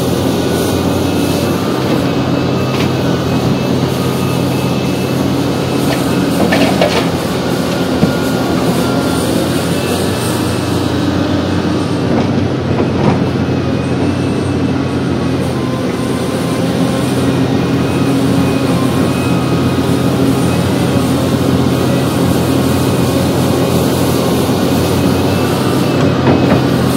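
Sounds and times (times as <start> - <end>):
excavator diesel engine under load: 0.0 - 26.9.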